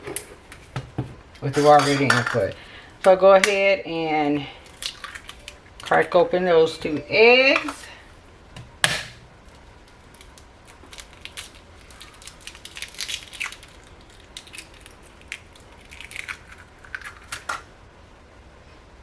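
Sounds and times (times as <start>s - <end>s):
eggshells crackling: 1.3s - 8.0s, 8.6s - 17.7s.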